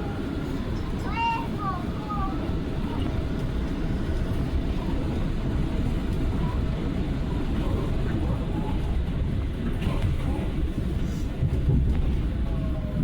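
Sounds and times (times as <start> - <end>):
subway wheels rumbling on rails: 0.0 - 13.0.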